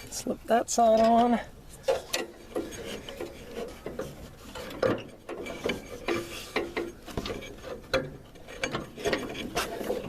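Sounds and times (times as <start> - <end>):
rubber belt rubbing and scraping: 1.7 - 10.0.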